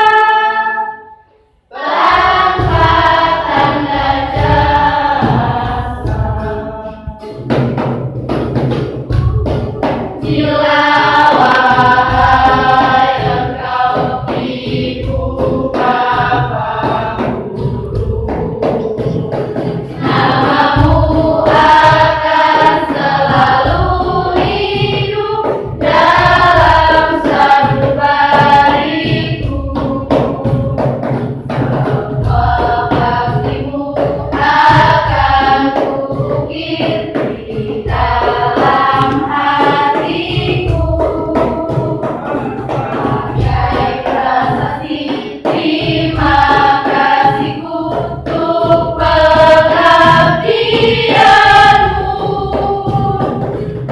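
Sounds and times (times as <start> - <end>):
school choir singing: 0.0 - 7.8, 9.0 - 53.9.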